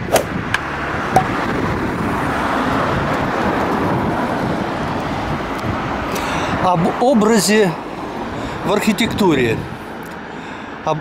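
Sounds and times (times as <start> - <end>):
cars passing on street: 0.0 - 11.0.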